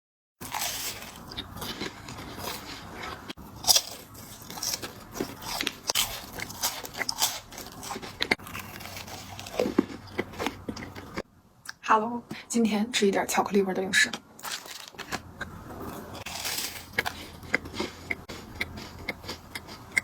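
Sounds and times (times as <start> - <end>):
biting crisp biscuits: 0.4 - 11.2, 14.4 - 20.0
chewing: 0.4 - 11.2, 14.5 - 20.0.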